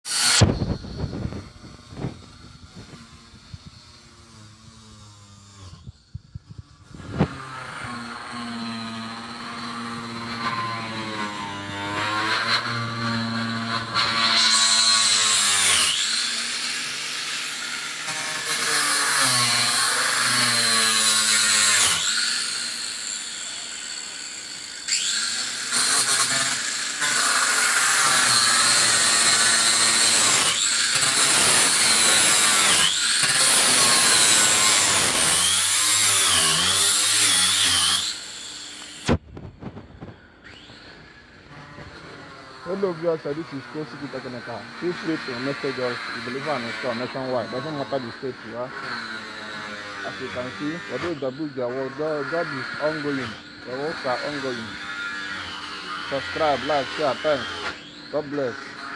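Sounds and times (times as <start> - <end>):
power tool running: 0.1 - 58.9.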